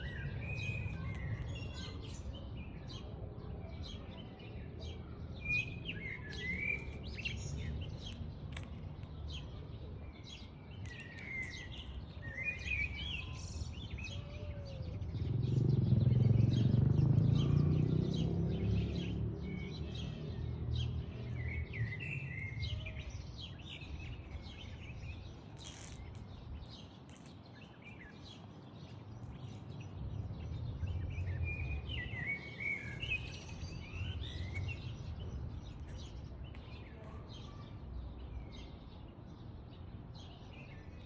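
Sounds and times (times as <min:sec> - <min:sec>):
birds chirping: 0:03.8 - 0:39.4.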